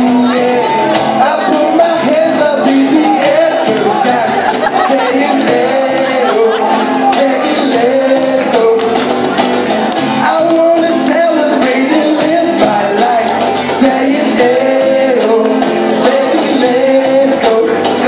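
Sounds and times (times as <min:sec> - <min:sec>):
person singing into microphone: 0:00.0 - 0:09.4, 0:10.0 - 0:18.0
cajon beat: 0:00.0 - 0:18.0
guitar: 0:00.0 - 0:18.0.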